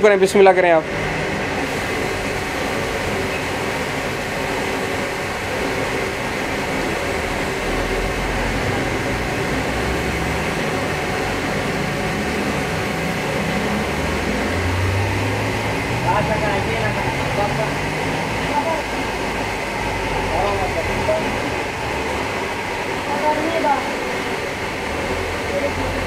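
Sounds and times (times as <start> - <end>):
spray gun hissing: 1.6 - 25.2.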